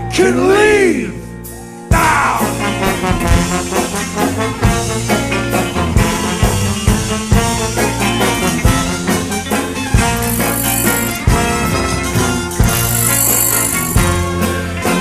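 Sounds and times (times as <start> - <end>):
swing band horns: 2.4 - 15.0.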